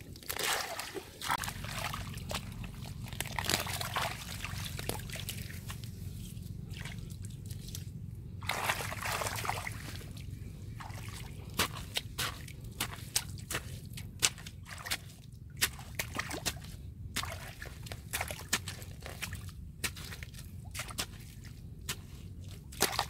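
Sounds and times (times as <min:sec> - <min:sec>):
mud squelching and splashing: 0:00.0 - 0:23.0
muddy water sloshing: 0:00.0 - 0:23.0.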